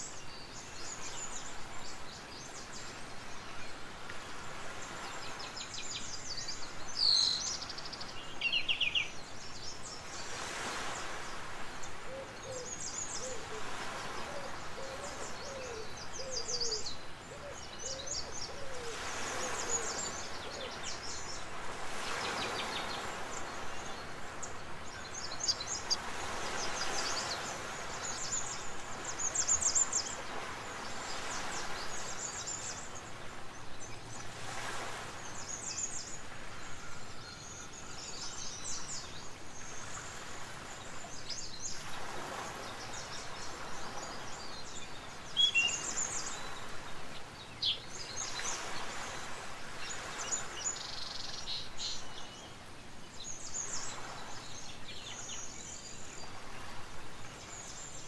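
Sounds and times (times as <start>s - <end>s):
birds chirping: 4.6s - 58.0s.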